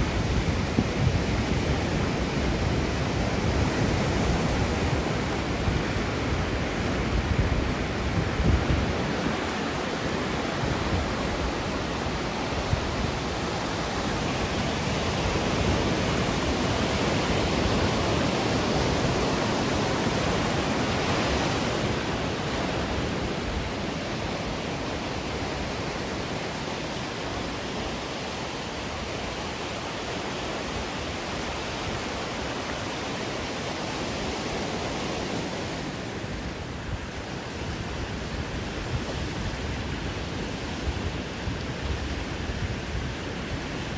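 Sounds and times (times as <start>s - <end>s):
ocean waves washing ashore: 0.0s - 43.9s.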